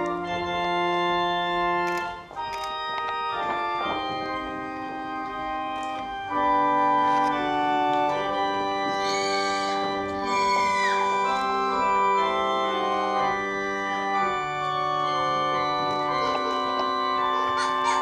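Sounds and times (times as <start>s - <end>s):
church organ chords: 0.0s - 18.0s.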